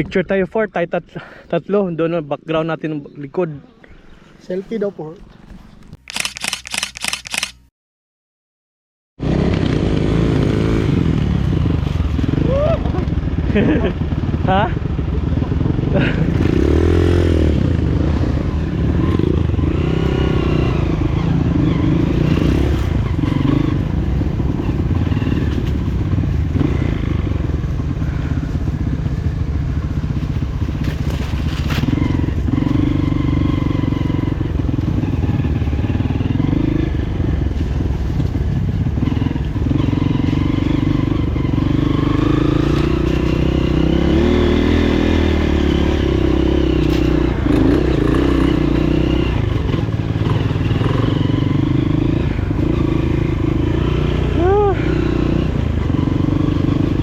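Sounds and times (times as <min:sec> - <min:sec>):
motorcycle engine running: 0:09.2 - 0:57.0.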